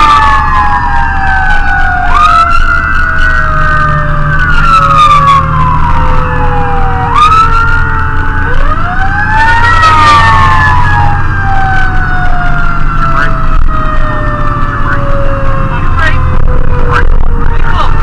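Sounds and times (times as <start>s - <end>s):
fire engine sirens wailing: 0.0s - 18.0s
truck engine drone: 0.0s - 18.0s.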